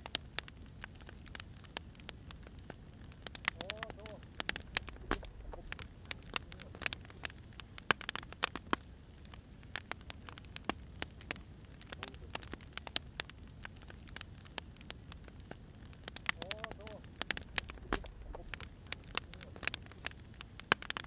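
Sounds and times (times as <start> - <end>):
firewood popping and snapping: 0.0 - 21.0
low rumble of fire: 0.0 - 21.0.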